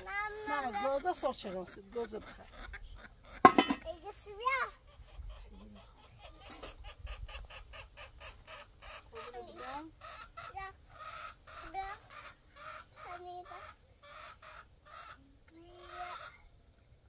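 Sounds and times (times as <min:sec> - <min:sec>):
chickens clucking: 0:00.0 - 0:16.7.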